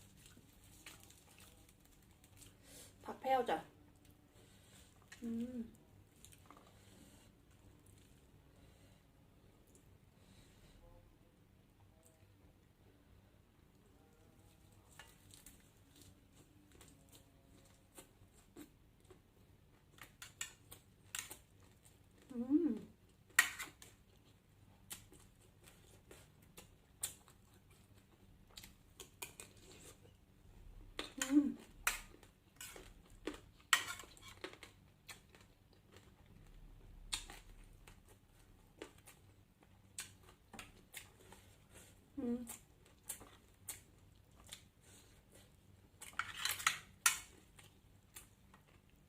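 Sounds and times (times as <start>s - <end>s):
faint chewing: 0.0s - 3.0s, 3.9s - 10.8s, 13.7s - 49.0s.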